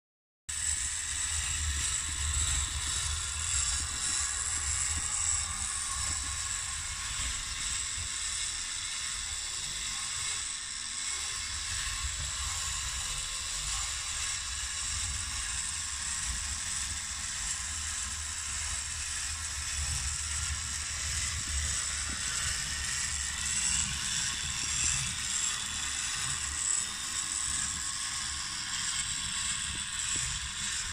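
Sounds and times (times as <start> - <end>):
toy car motor whirring: 0.5 - 30.9.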